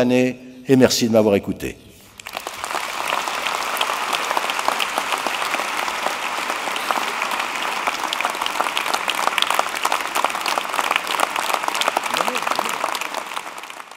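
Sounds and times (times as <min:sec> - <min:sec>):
large audience applauding: 0:02.2 - 0:13.9.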